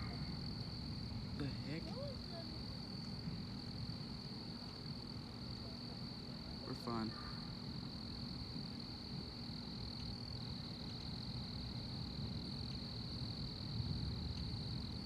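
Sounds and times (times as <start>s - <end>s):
low background rumble: 0.0s - 15.0s
night insects droning: 0.0s - 15.0s.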